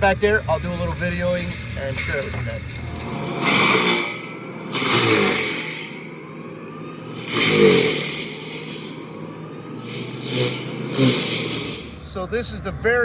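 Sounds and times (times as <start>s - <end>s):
motor engine revving: 0.0s - 12.2s.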